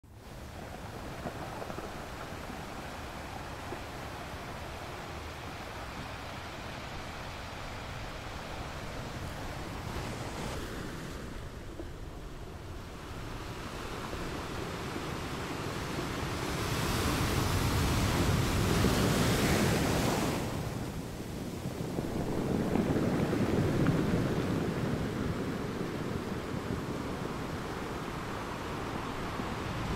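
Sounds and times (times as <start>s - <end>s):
waves at the shore: 0.0s - 29.9s
wind on microphone: 0.1s - 29.9s.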